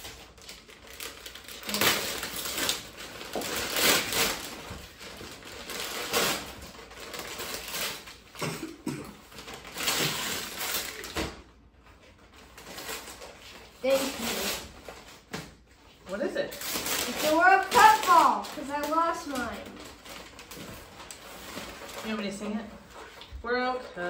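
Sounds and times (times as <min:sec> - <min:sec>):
wrapping paper tearing and crumpling: 0:00.0 - 0:08.4, 0:09.2 - 0:11.5, 0:12.1 - 0:15.3, 0:16.4 - 0:24.0.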